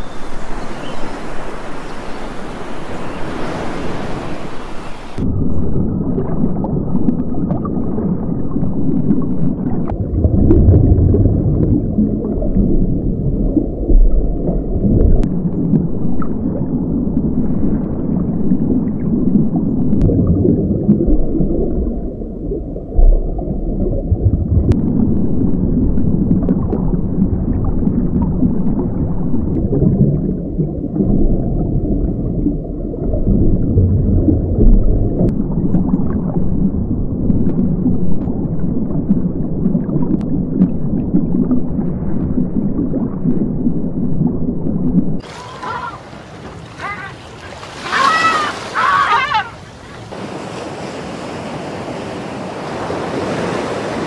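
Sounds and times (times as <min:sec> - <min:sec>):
underwater rumble of moving water: 0:00.0 - 0:54.0.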